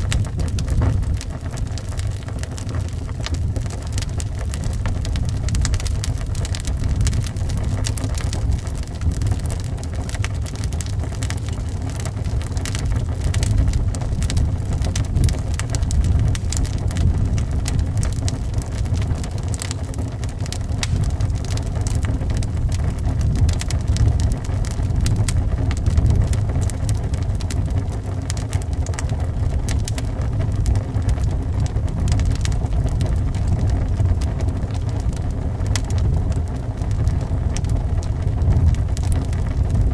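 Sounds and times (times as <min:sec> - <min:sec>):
low rumble of wind: 0:00.0 - 0:39.9
wood fire crackling: 0:00.0 - 0:39.9.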